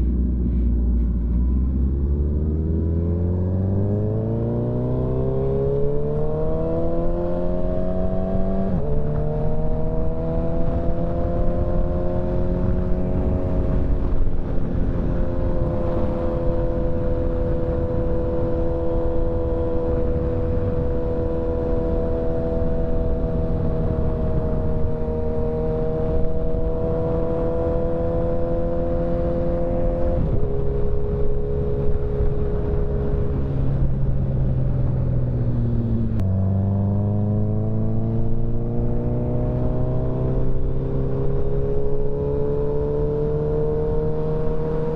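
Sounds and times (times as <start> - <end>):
motorcycle engine revving: 0.0 - 44.9
road and wind rumble: 0.0 - 44.9.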